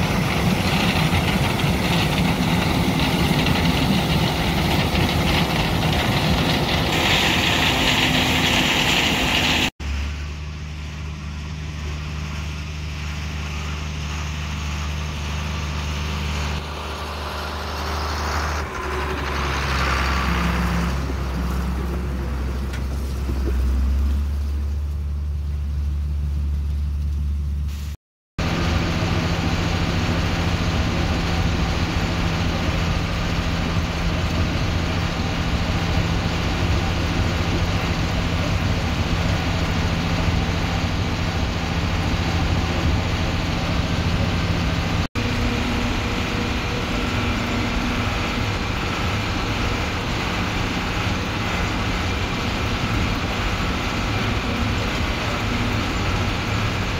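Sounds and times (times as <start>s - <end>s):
combine harvester working: 0.0s - 56.9s
tractor diesel engine droning: 0.0s - 56.9s.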